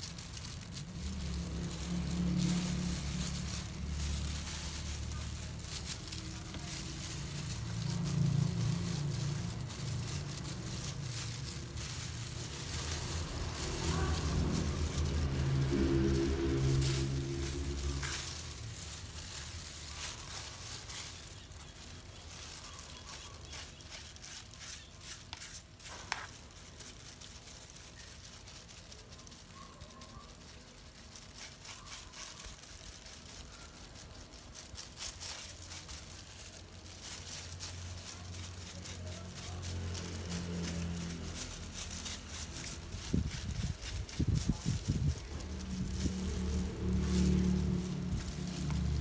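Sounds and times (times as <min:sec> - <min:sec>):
brush dabbing dye into hair: 0:00.0 - 0:49.0
plastic gloves crinkling: 0:00.0 - 0:49.0.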